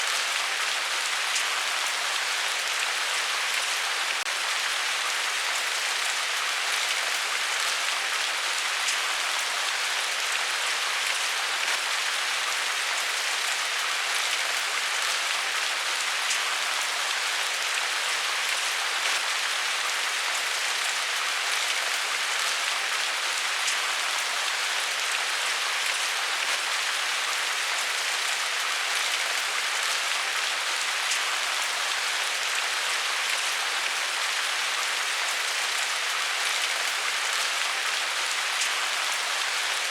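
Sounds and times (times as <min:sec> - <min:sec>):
rain hissing on a surface: 0:00.0 - 0:39.9.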